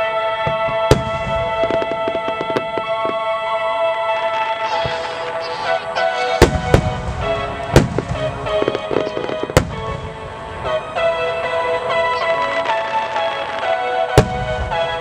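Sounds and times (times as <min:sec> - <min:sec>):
music with long held notes: 0:00.0 - 0:15.0
firework shells bursting: 0:00.4 - 0:03.3, 0:04.3 - 0:15.0.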